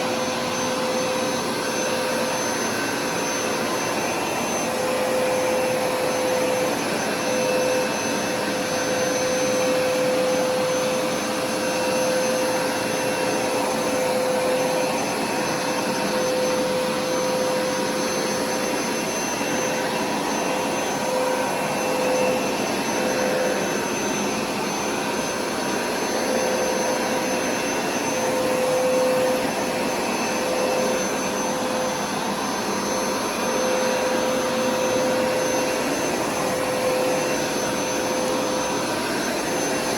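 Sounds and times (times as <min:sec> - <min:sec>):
carpet cleaner motor running: 0:00.0 - 0:39.9.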